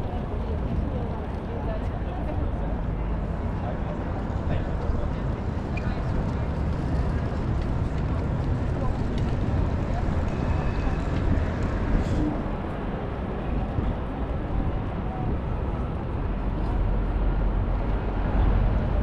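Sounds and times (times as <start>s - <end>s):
constant background hum: 0.0s - 19.0s
low rumble of passing traffic: 0.0s - 19.0s.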